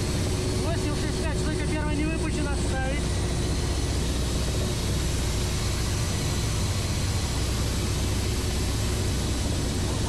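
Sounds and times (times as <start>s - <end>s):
helicopter engines and rotors: 0.0s - 10.0s.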